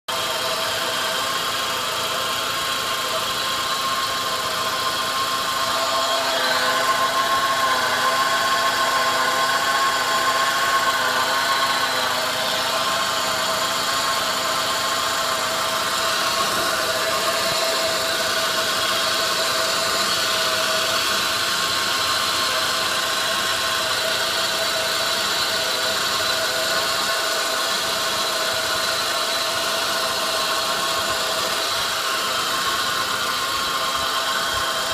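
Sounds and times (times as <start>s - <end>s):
car engine running: 0.0s - 34.9s
high mechanical whine: 0.0s - 34.9s.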